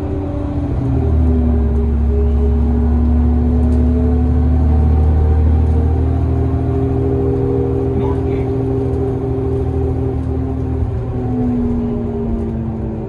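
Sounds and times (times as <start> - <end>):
bus diesel engine rumbling: 0.0 - 13.0.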